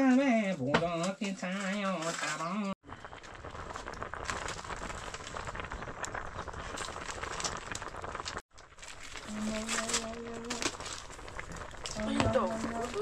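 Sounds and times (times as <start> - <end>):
fire crackling and sizzling: 0.1 - 13.0.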